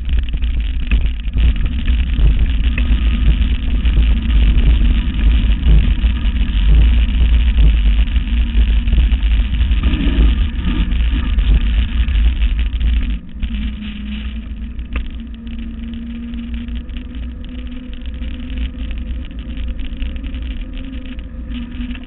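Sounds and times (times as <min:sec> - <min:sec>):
bike tyres rumbling over gravel: 0:00.0 - 0:22.0
tyres humming on asphalt: 0:00.0 - 0:22.0
wind on microphone: 0:00.0 - 0:22.0.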